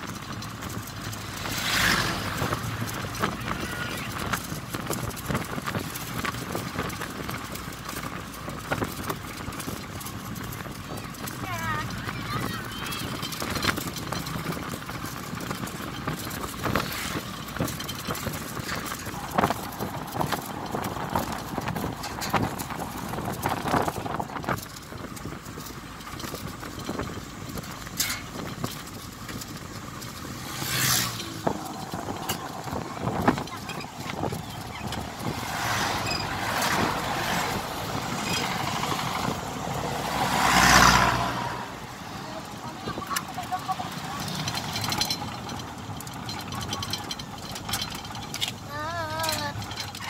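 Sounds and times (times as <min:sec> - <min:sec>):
knocks and rattles: 0:00.0 - 0:50.0
wind and road noise: 0:00.0 - 0:50.0.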